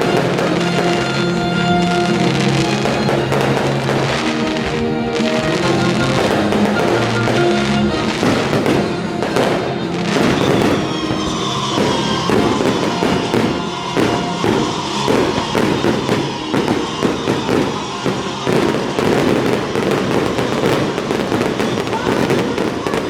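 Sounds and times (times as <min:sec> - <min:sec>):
fireworks bursting: 0:00.0 - 0:23.0
music playing: 0:00.0 - 0:23.0.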